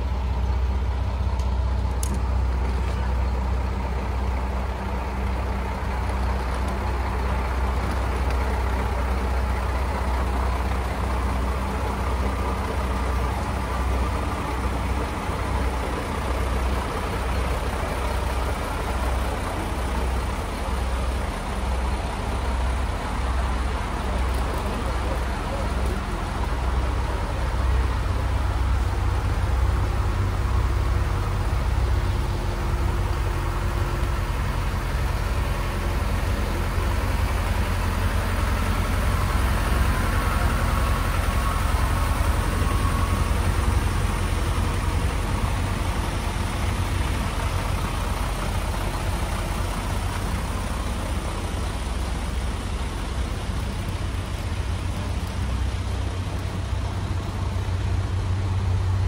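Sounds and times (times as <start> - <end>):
diesel railcar engines idling: 0.0 - 59.0.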